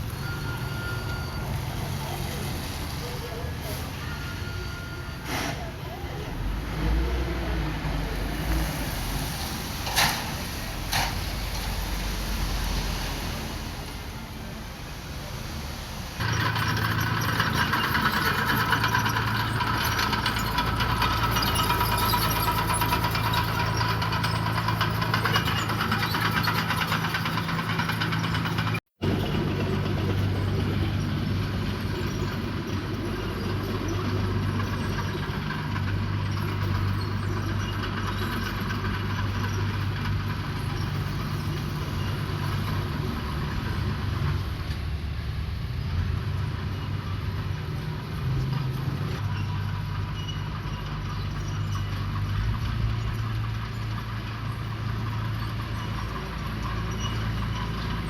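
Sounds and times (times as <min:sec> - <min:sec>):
diesel machinery engines running: 0:00.0 - 0:58.0.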